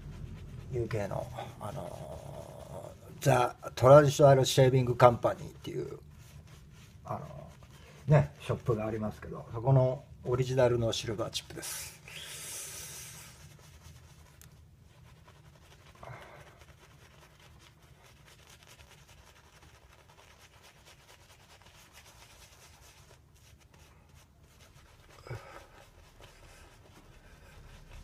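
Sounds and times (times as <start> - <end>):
shaving brush swishing: 0.0 - 28.0.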